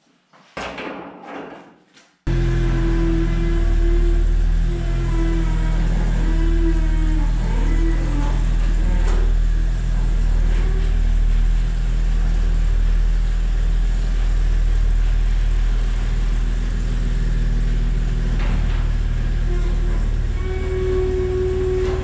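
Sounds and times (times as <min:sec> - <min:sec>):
large vehicle engine running: 0:02.3 - 0:22.0.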